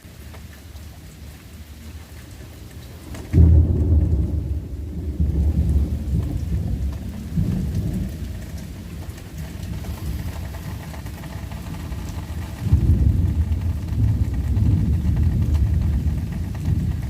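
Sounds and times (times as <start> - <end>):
thunder rumbling: 3.0 - 17.0.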